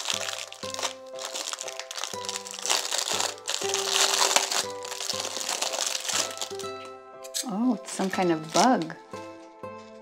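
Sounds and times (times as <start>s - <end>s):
plastic bag crinkling: 0.0s - 6.9s, 7.9s - 9.0s
children's background music: 0.0s - 10.0s.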